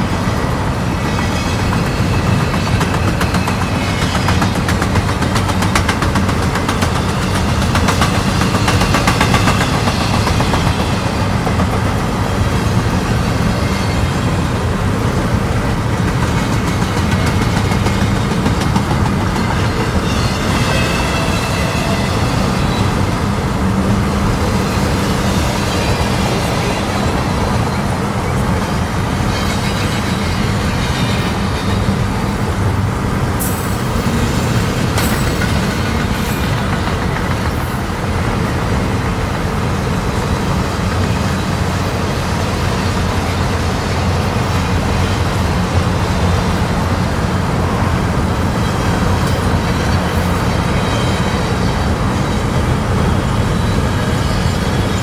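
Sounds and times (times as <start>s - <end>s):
heavy vehicles rumbling: 0.0s - 55.0s.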